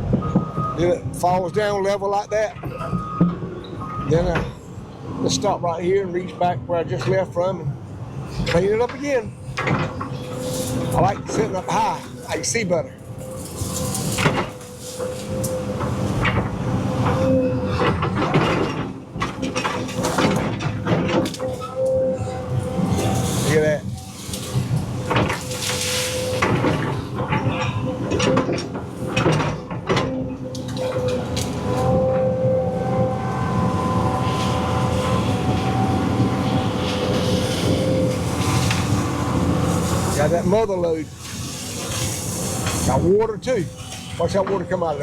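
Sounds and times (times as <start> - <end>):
excavator engine whine: 0.0 - 45.0.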